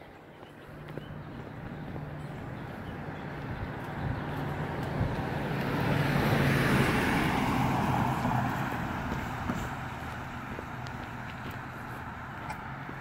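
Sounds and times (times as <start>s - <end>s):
pickup truck driving past: 1.2s - 13.0s.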